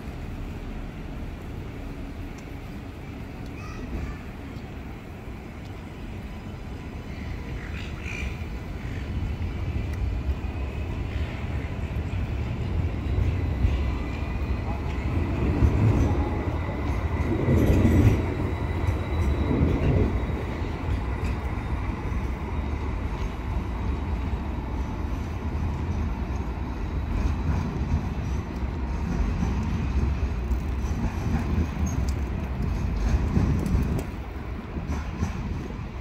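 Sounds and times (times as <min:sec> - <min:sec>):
rail vehicle rumble: 0:00.0 - 0:36.0.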